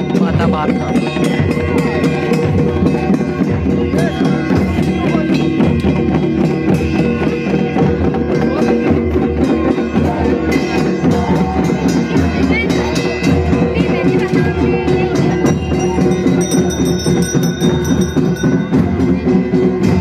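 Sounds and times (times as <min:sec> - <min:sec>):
crowd voices: 0:00.0 - 0:20.0
drums beating: 0:00.0 - 0:20.0.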